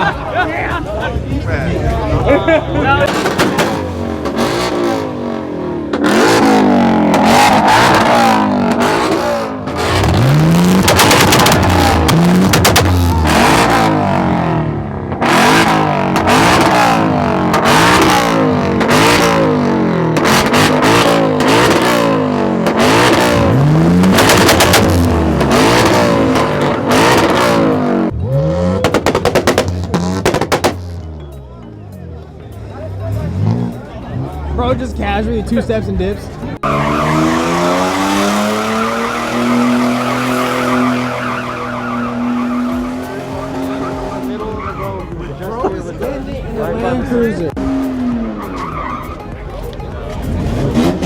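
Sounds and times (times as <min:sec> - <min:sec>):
car engine revving: 0:00.8 - 0:51.0
exhaust cracks: 0:03.0 - 0:31.6, 0:32.2 - 0:45.1.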